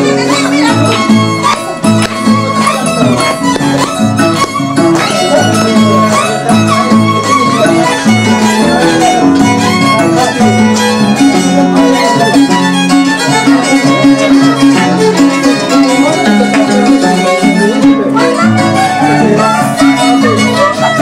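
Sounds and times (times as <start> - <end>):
plucked harp bass line: 0.0 - 21.0
violins playing melody: 0.0 - 21.0.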